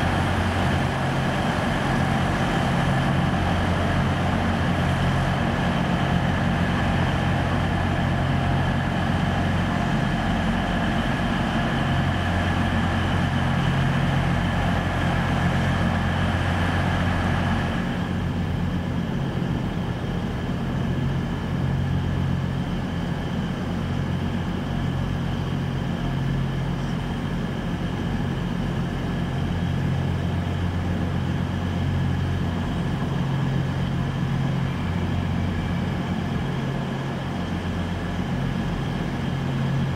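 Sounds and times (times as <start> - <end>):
high whine: 0.0 - 39.9
train engine hum: 0.0 - 39.9.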